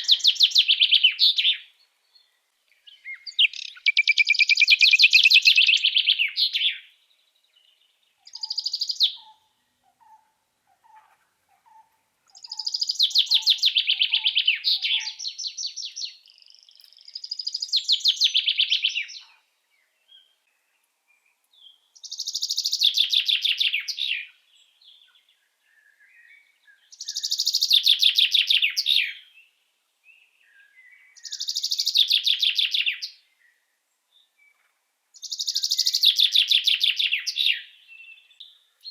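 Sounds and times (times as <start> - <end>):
songbird trilling song: 0.0 - 38.9.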